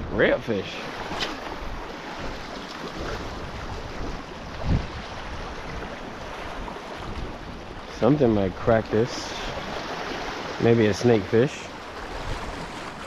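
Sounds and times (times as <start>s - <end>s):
wind buffeting microphone: 0.0s - 10.6s, 11.8s - 13.0s
water washing against shore: 0.0s - 13.0s.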